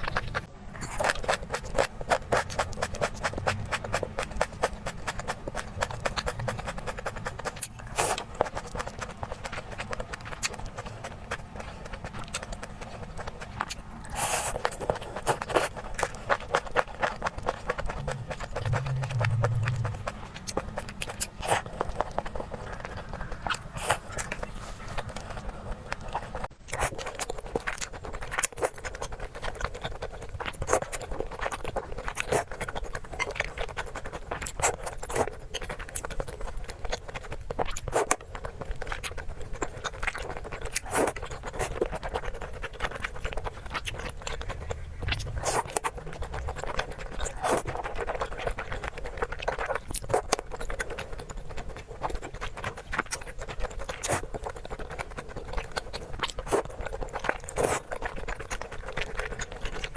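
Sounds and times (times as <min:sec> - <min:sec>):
crunching and chewing: 0:00.0 - 0:59.9.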